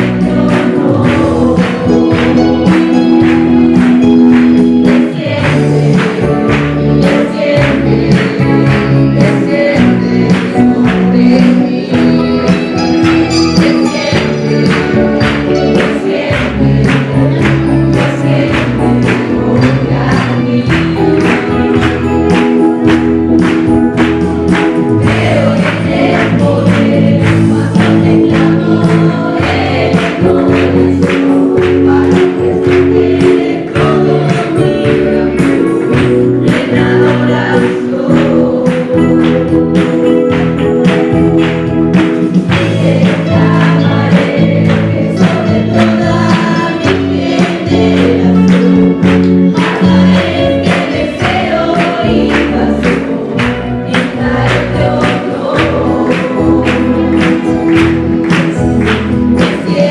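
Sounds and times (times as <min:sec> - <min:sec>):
choir singing: 0:00.0 - 0:04.1, 0:04.9 - 0:22.4, 0:23.4 - 0:39.8, 0:42.4 - 0:59.9
band with steady beat: 0:00.0 - 0:59.9.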